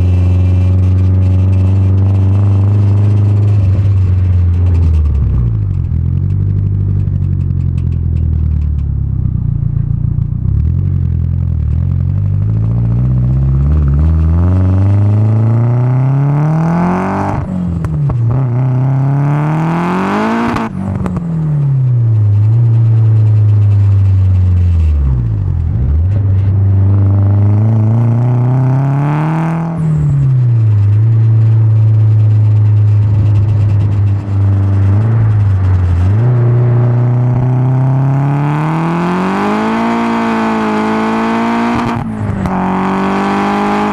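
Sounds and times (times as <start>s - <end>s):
turbocharged car engine accelerating: 0.0s - 8.8s, 9.5s - 43.9s.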